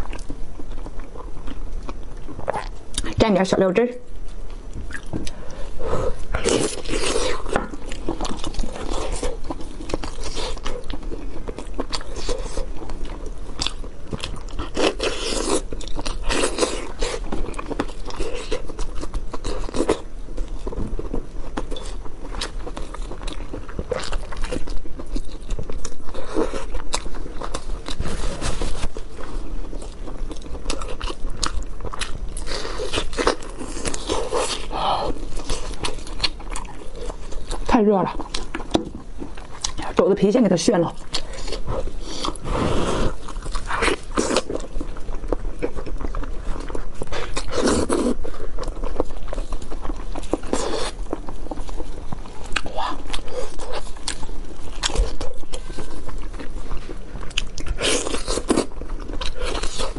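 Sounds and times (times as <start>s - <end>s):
biting and chewing: 0.0s - 3.2s, 4.2s - 59.9s.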